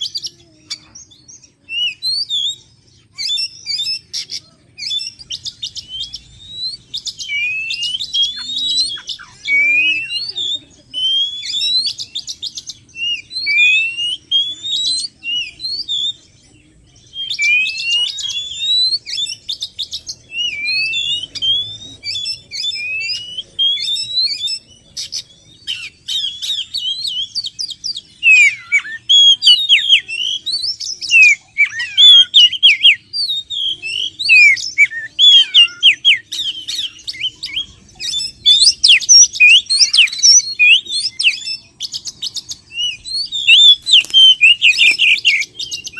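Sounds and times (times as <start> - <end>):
bird song whistled notes: 0.0 - 45.9.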